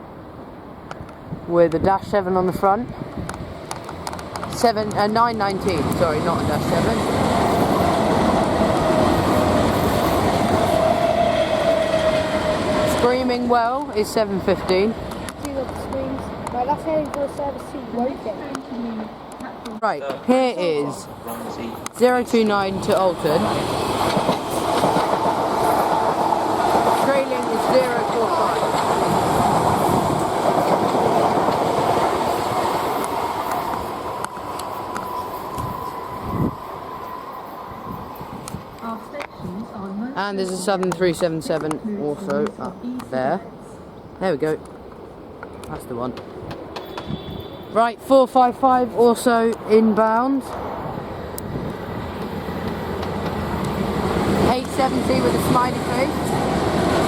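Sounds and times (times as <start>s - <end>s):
train wheels rumbling past: 2.0s - 19.3s, 21.0s - 40.8s, 45.8s - 57.0s.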